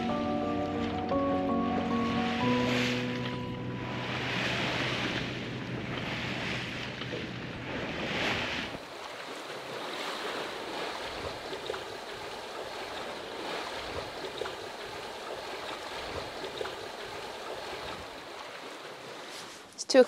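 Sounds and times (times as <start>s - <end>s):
sea water rushing along hull: 0.0s - 20.0s.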